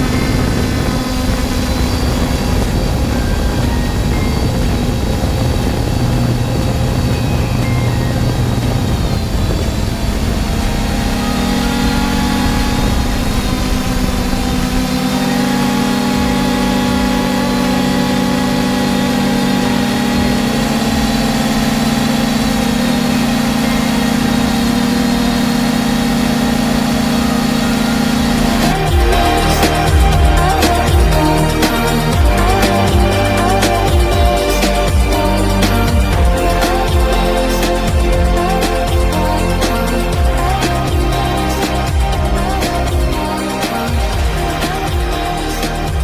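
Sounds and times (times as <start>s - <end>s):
quadcopter motors humming: 0.0s - 46.0s.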